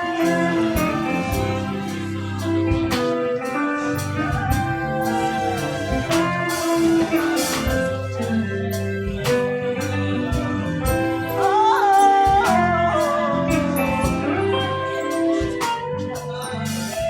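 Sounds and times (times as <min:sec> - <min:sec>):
gospel band playing: 0:00.0 - 0:17.0
person singing melody: 0:00.0 - 0:17.0.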